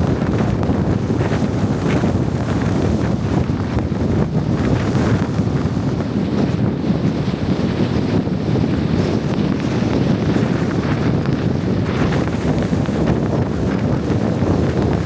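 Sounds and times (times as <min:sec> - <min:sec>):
blizzard wind on microphone: 0:00.0 - 0:15.0.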